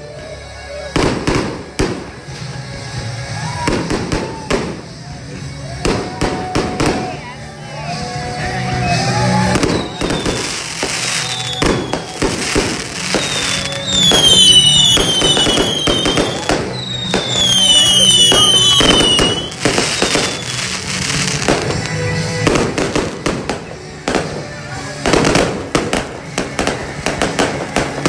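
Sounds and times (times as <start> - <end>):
music: 0.0 - 28.0
fireworks bangs and crackles: 0.8 - 28.0
whistling fireworks: 3.2 - 7.2, 8.0 - 28.0.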